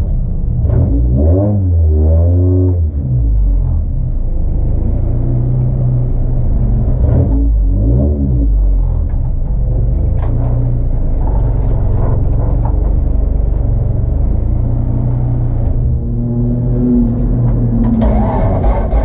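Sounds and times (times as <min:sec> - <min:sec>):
race car engine under load: 0:02.8 - 0:19.0.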